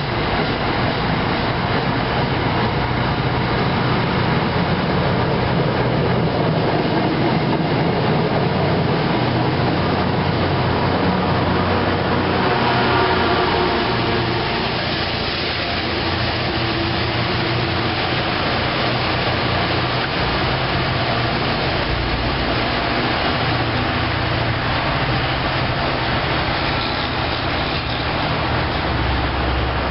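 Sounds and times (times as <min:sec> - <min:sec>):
diesel locomotive engine: 0:00.0 - 0:29.9
train wheels on rails: 0:00.0 - 0:29.9.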